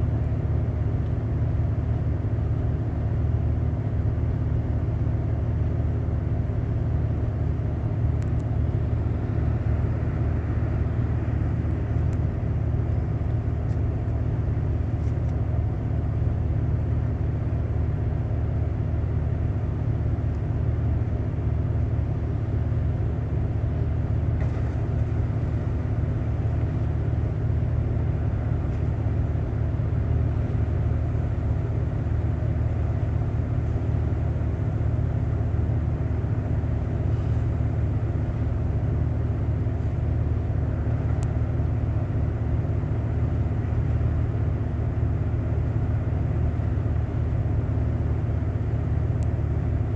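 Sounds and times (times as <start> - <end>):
boat diesel engine running: 0.0 - 49.9.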